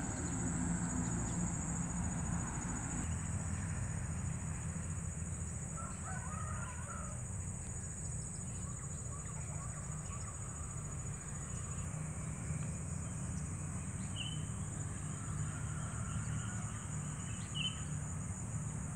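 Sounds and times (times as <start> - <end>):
high insect drone: 0.0 - 18.9.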